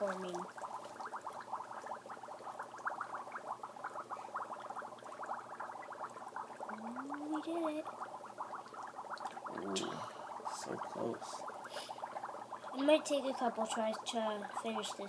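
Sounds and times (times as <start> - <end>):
dry ice bubbling in water: 0.0 - 15.0.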